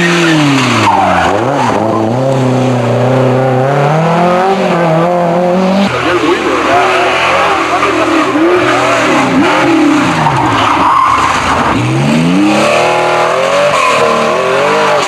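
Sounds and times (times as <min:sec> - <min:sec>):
rally car engine revving: 0:00.0 - 0:15.0
tyres squealing and skidding: 0:00.0 - 0:15.0.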